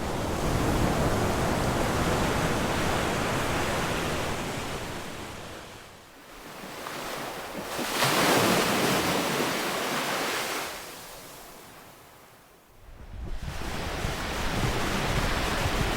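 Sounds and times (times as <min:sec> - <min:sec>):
ocean waves breaking on shore: 0:00.0 - 0:12.6, 0:13.2 - 0:15.9.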